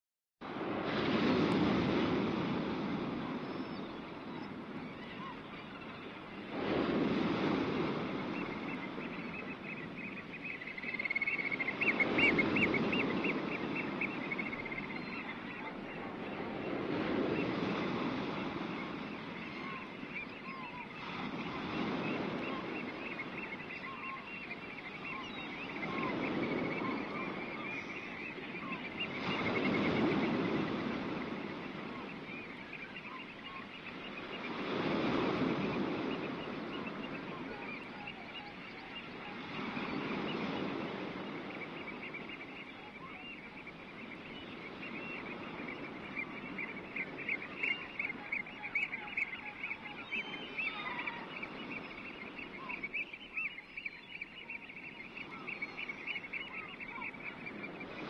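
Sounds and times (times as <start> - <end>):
sea noise: 0.4 - 58.0
wind: 0.4 - 58.0.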